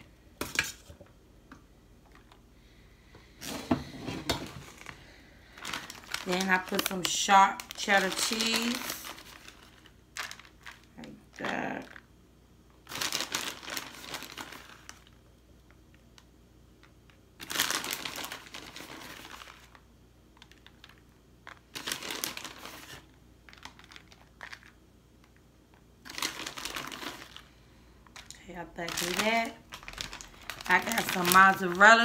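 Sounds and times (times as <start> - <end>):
plastic bag crinkling: 3.4 - 12.1, 12.8 - 32.0.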